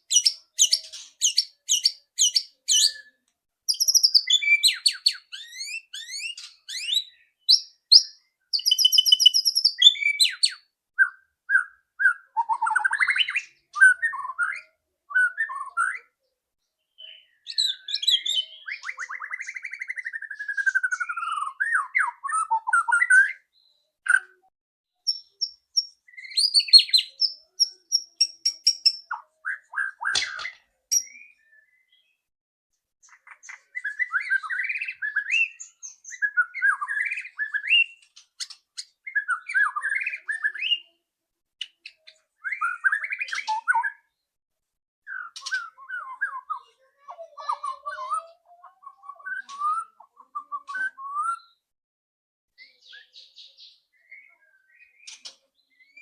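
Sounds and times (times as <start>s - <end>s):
bird singing chattering and whistles: 0.0s - 16.1s, 17.0s - 23.4s, 25.0s - 32.0s, 33.0s - 40.9s, 41.6s - 44.1s, 45.1s - 51.6s, 52.6s - 56.0s.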